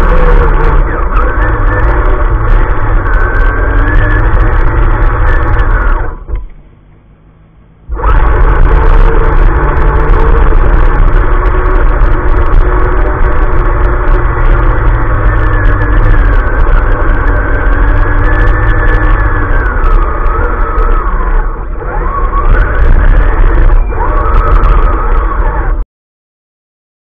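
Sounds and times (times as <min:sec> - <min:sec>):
electric motor whining: 0:00.0 - 0:06.6, 0:07.9 - 0:25.8.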